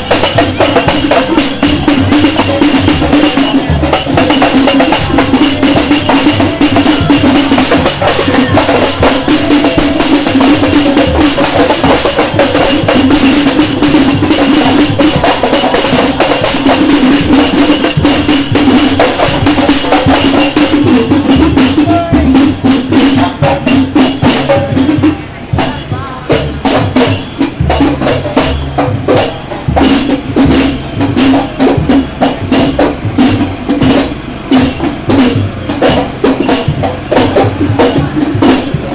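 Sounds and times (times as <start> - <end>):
jingling tambourine percussion: 0.0 - 38.9.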